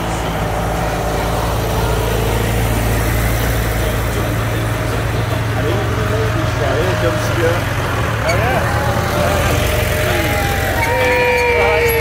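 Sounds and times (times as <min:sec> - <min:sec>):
tractor engines driving past: 0:00.0 - 0:12.0.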